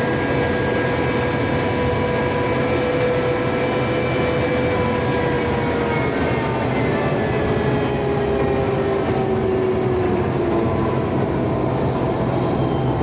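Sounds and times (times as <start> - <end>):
electric drive whine: 0.0 - 13.0
road rumble: 0.0 - 13.0.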